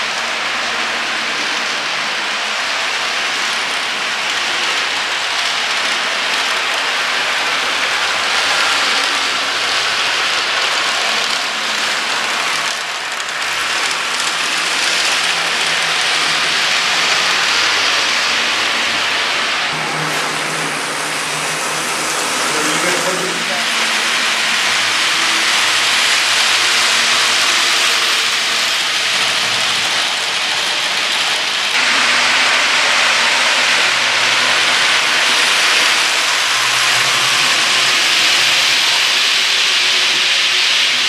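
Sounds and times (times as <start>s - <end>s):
model train running on track: 0.0s - 41.0s.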